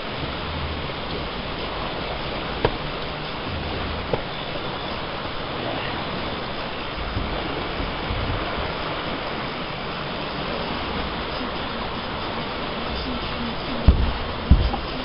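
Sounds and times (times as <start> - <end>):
water rushing over rapids: 0.0 - 15.0.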